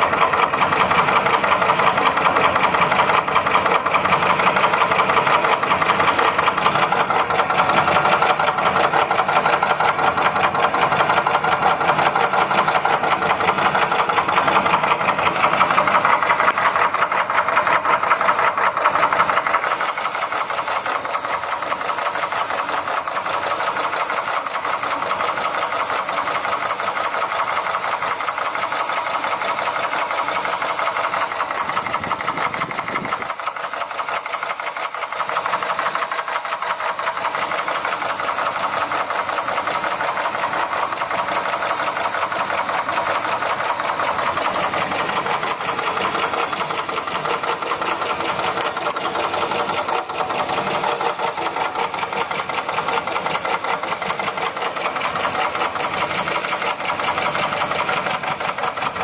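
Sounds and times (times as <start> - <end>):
car engine running: 0.0 - 59.0
fast engine ticking: 0.0 - 59.0.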